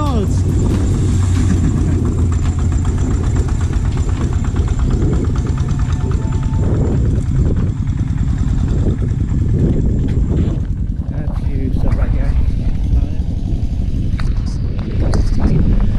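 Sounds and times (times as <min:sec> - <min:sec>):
engine knocking over low rumble: 0:00.0 - 0:15.9.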